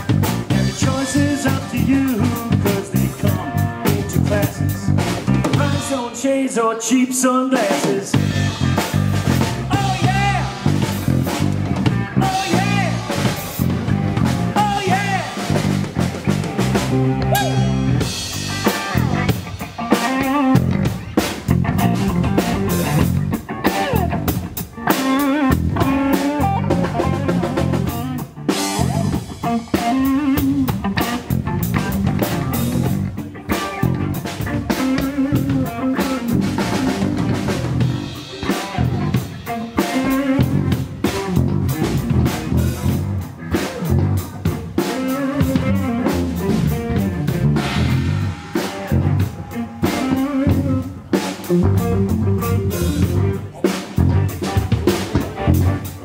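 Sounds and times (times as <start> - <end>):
drum kit: 0.0 - 6.2, 7.6 - 56.0
bass guitar: 0.0 - 6.5, 7.8 - 56.0
electric guitar: 0.0 - 56.0.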